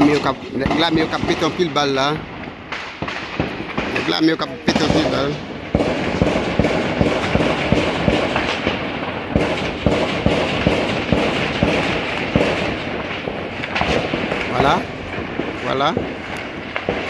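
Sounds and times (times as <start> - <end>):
rapid heavy gunfire: 0.0 - 17.0.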